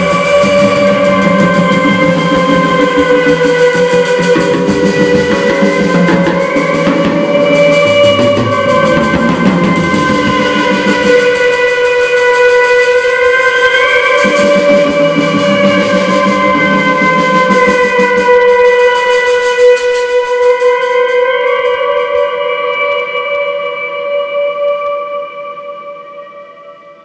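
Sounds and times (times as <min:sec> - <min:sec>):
drums and cymbals: 0:00.0 - 0:23.5
droning electric guitar: 0:00.0 - 0:27.0.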